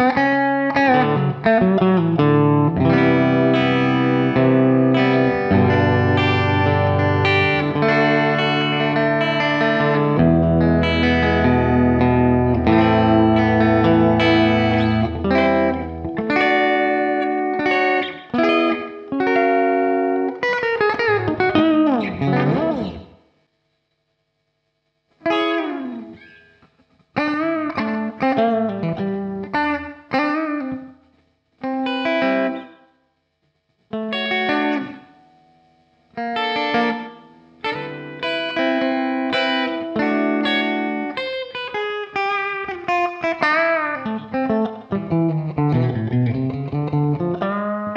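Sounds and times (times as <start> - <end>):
electric guitar with effects: 0.0 - 47.9.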